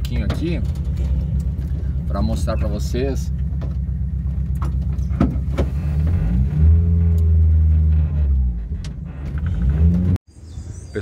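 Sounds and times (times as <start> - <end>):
van engine running: 0.0 - 10.2.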